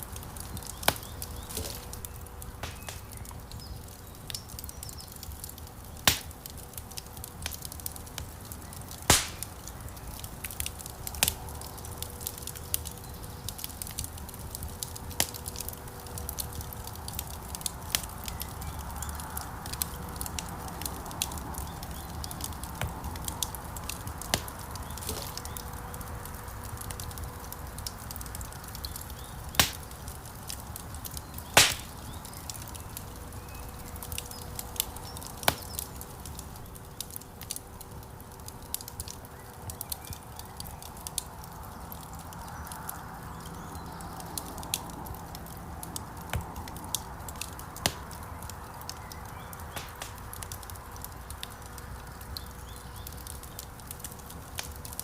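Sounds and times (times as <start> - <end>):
low rumble of flame: 0.0 - 55.0
sharp pops from fire: 0.0 - 55.0
wood fire crackling: 0.0 - 55.0.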